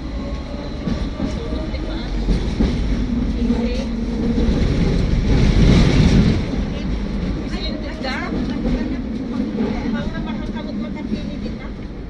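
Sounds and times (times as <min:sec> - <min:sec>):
tram rumbling and rattling on tracks: 0:00.0 - 0:12.0.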